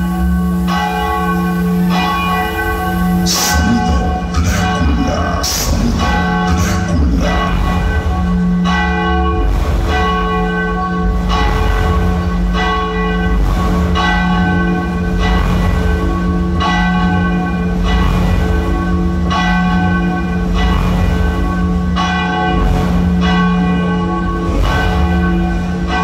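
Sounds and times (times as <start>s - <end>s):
bell tolls: 0.0s - 26.0s
deep bass: 0.0s - 26.0s
low drone: 0.0s - 26.0s.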